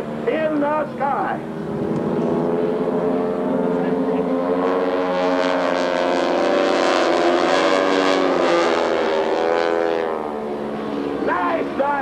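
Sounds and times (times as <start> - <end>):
biplane radial engines droning: 0.0 - 12.0.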